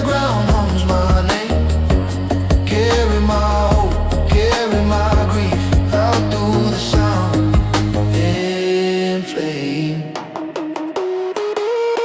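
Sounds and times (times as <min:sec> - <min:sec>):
pop song with steady beat: 0:00.0 - 0:12.0.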